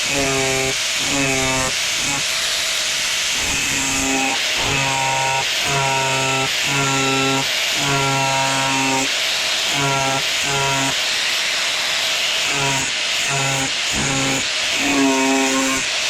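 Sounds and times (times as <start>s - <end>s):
air saw buzzing: 0.0s - 16.0s.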